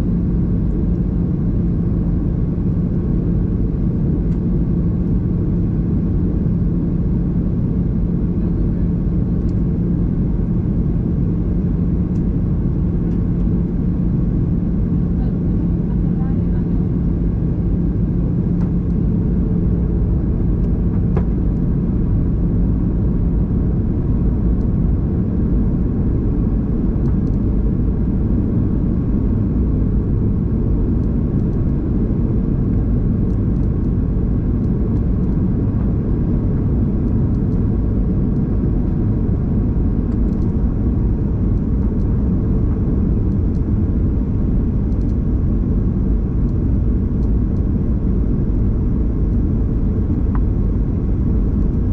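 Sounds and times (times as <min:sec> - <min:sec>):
airplane cabin engine rumble: 0:00.0 - 0:51.9
low hum: 0:00.0 - 0:51.9.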